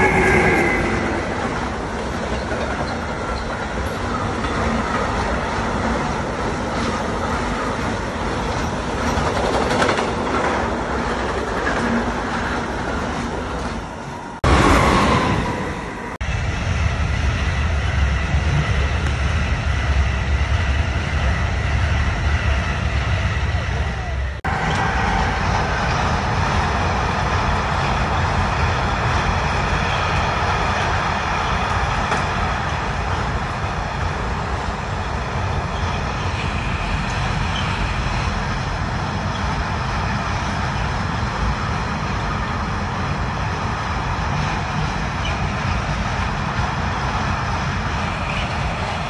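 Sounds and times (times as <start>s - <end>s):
locomotive whine: 0.0s - 9.2s, 10.1s - 49.0s
train passing with deep rumble: 0.0s - 49.0s
train wheels rolling on rails: 0.0s - 49.0s.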